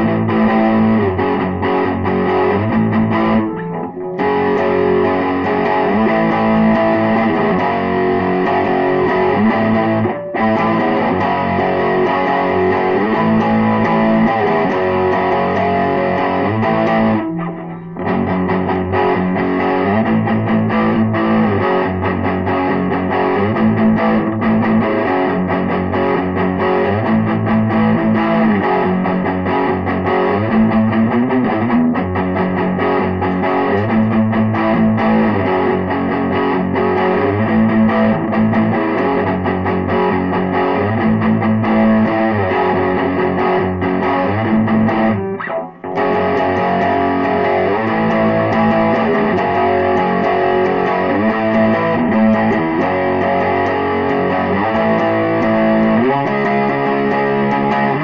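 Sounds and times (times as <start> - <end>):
distorted electric guitar riffs: 0.0 - 58.0.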